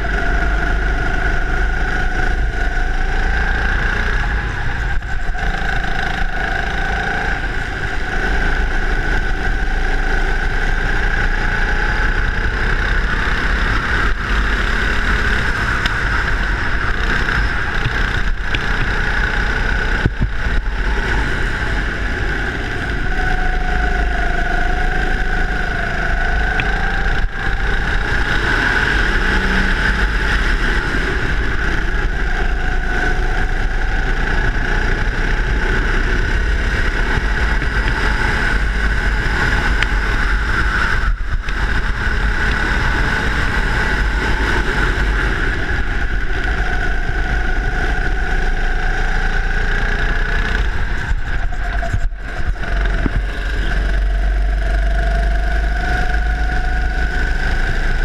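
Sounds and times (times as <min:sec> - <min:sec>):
go-kart engine running: 0:00.0 - 0:58.0
low rumble: 0:00.0 - 0:58.0.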